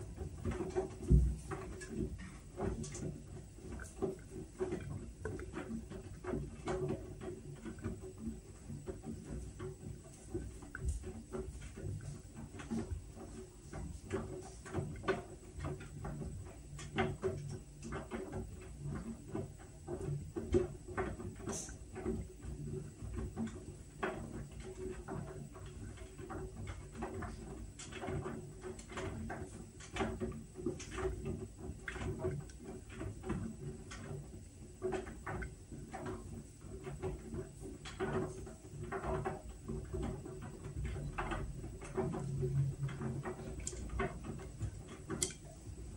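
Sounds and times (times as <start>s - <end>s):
washing machine motor hum: 0.0s - 45.9s
light clicks and taps: 0.5s - 45.9s.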